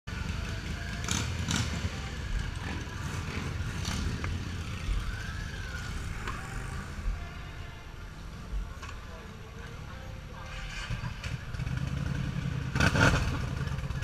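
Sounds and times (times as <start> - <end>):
motorcycle engines idling: 0.1 - 14.0.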